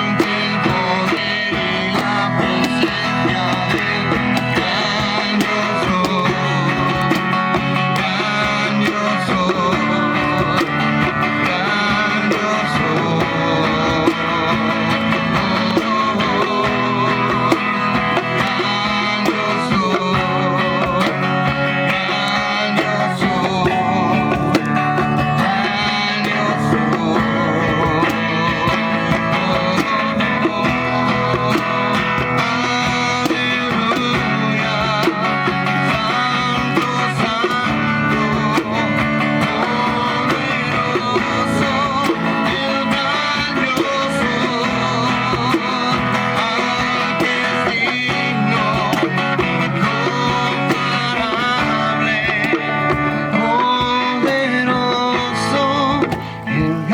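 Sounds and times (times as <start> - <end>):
strummed guitar music: 0.0 - 56.9.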